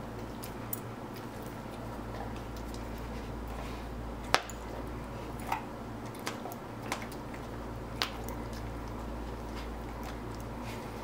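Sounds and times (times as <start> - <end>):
steady low hum: 0.0 - 11.0
dog chewing clicks and smacks: 0.1 - 3.3, 4.2 - 11.0.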